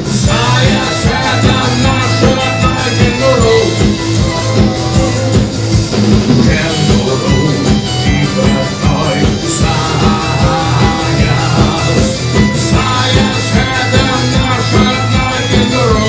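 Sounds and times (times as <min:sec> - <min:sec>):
drum kit beat: 0:00.0 - 0:16.0
rock band playing: 0:00.0 - 0:16.0.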